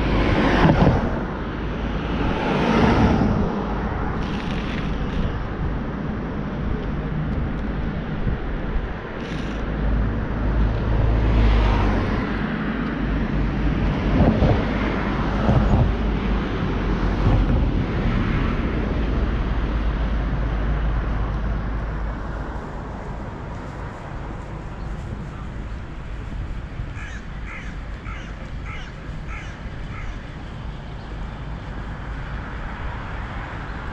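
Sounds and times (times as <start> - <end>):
cars passing: 0.0 - 33.9
low traffic rumble: 0.0 - 33.9.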